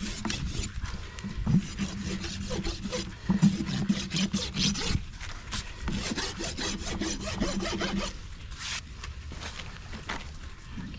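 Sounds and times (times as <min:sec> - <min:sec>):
hoof rasp scraping: 0:00.0 - 0:08.8.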